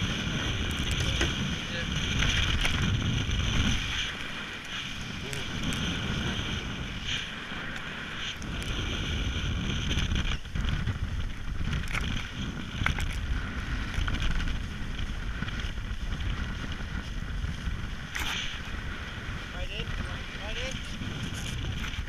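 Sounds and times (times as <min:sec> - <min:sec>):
water rushing along hull: 0:00.0 - 0:22.0
wind buffeting microphone: 0:00.0 - 0:22.0.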